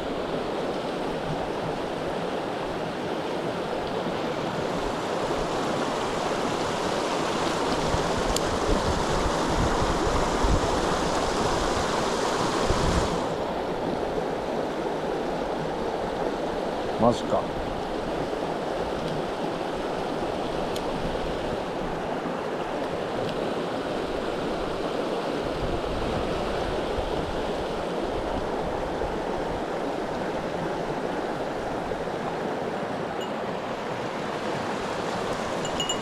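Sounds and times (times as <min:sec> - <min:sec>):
stream water rushing over rocks: 0:00.0 - 0:36.0.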